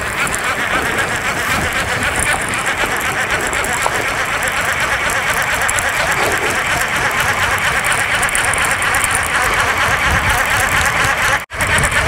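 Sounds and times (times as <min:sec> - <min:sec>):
fishing reel whirring: 0:00.0 - 0:12.0.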